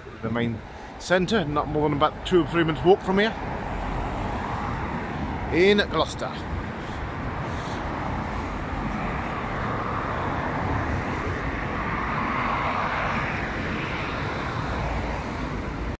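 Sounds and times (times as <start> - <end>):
vehicles driving past: 0.0 - 16.0.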